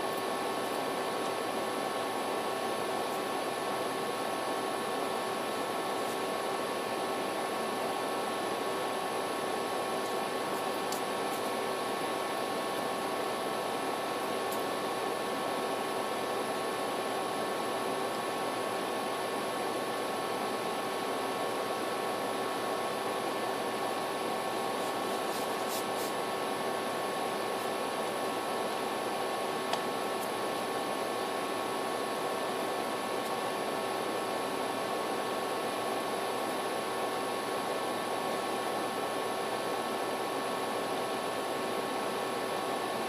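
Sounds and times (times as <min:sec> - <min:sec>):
faint hum tones: 0:00.0 - 0:43.0.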